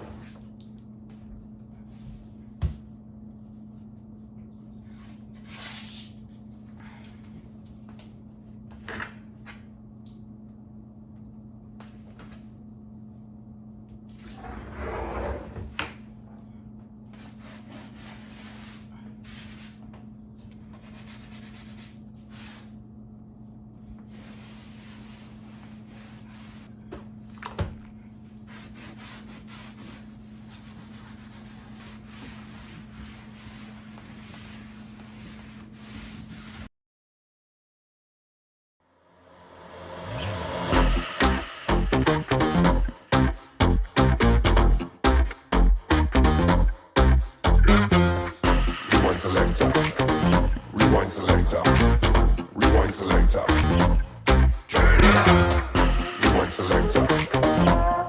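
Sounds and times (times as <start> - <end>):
steady low hum: 6.1 - 35.0, 40.4 - 58.0.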